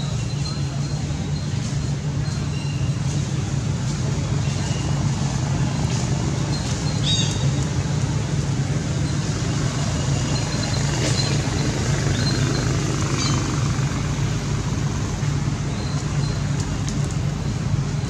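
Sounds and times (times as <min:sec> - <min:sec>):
low motor rumble: 0:00.0 - 0:18.0.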